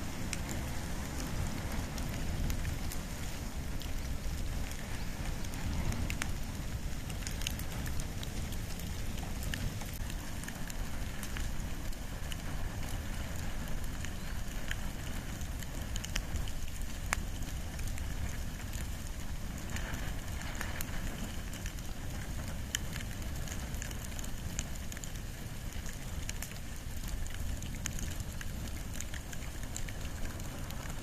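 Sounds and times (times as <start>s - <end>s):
bonfire crackling and popping: 0.0s - 31.0s
low rumble of flames: 0.0s - 31.0s.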